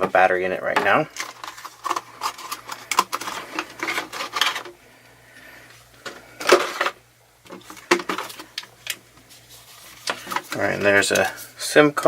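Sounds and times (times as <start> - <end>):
box and plastic rustling: 0.0 - 4.8, 5.5 - 11.7.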